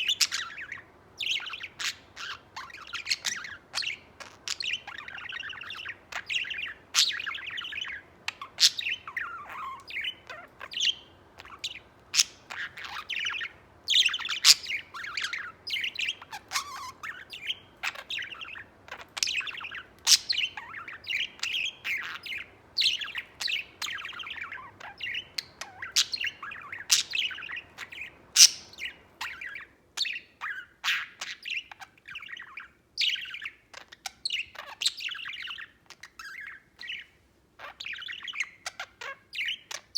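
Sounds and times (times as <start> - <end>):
budgerigar warbling and chirping: 0.0 - 39.9.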